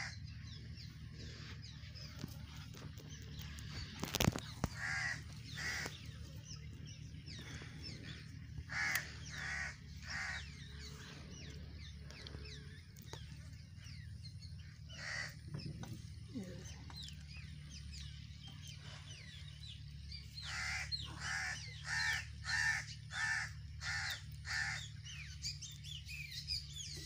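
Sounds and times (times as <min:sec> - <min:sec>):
faint small birds chirping: 0:00.0 - 0:27.0
short bird calls: 0:00.0 - 0:27.0.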